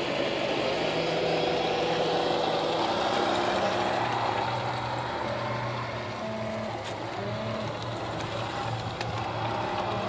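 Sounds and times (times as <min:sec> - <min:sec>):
toy truck motor humming: 0:00.0 - 0:10.0.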